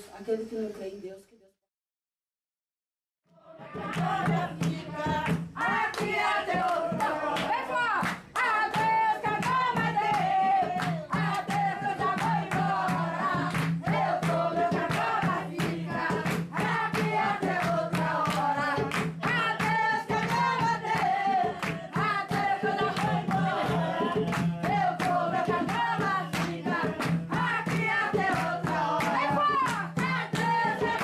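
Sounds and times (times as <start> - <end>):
group of voices singing: 3.3 - 31.0.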